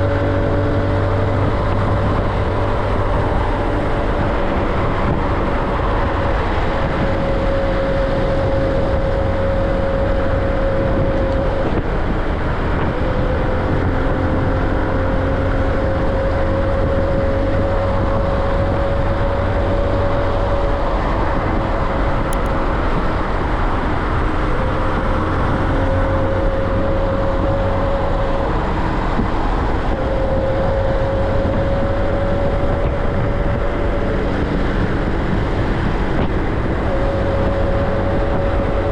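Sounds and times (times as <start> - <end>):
motorcycle engine at speed: 0.0 - 38.9
rising whine: 0.0 - 38.9
wind noise: 0.0 - 38.9.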